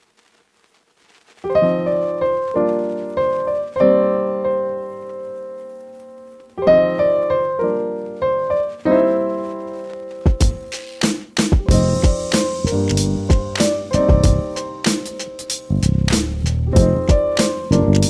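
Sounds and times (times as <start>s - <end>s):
piano chords: 1.5s - 18.0s.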